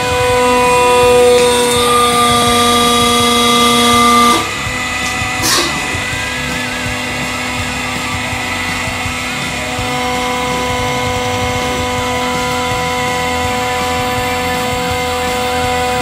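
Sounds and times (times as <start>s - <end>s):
hydraulic press pump whining: 0.0s - 16.0s.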